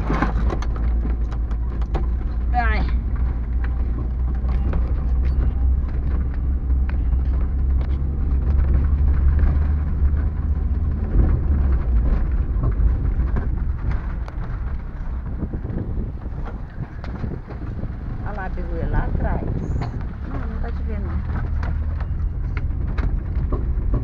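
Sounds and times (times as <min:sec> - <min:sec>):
body knocks and rattles: 0:00.0 - 0:24.0
van engine and road rumble: 0:00.0 - 0:24.0.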